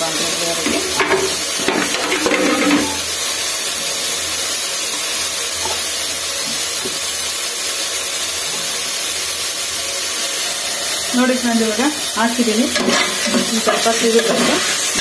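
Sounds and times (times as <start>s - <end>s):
onions and tomatoes sizzling: 0.0s - 15.0s.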